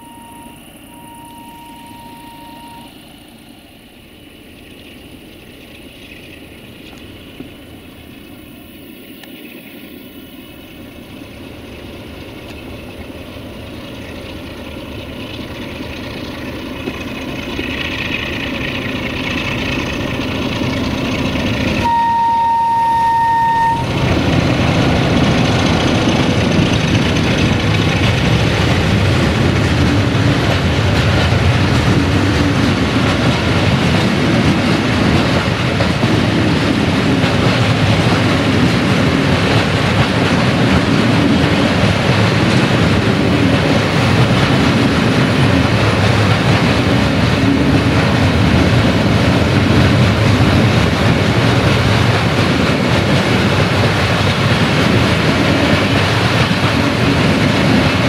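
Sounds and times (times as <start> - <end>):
freight wagons rolling past: 10.4 - 58.0.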